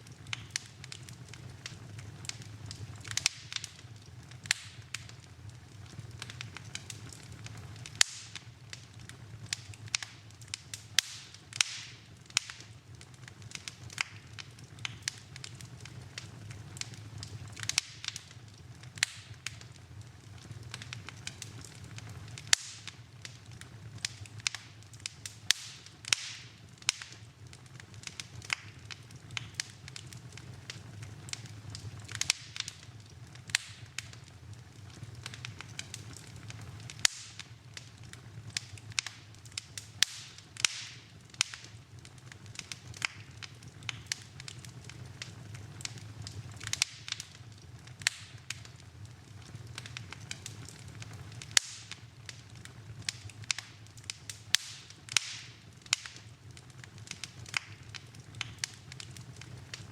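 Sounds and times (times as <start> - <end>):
low rush of flame: 0.0 - 59.9
wood fire crackling and popping: 0.0 - 59.9.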